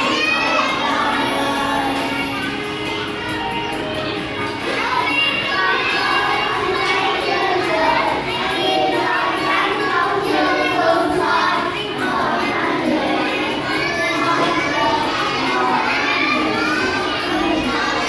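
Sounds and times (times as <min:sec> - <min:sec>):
children singing together: 0:00.0 - 0:18.0.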